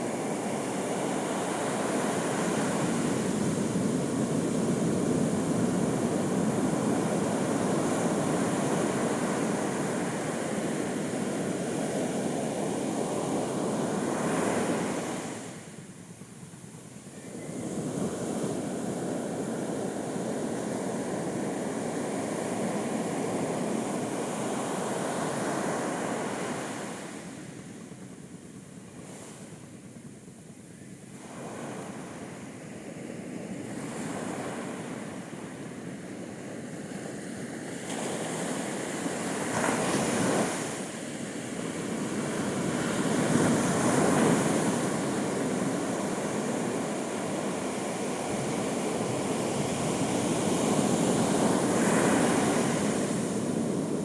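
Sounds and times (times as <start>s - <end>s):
ocean waves breaking on beach: 0.0s - 15.8s, 17.3s - 27.7s, 31.1s - 54.0s.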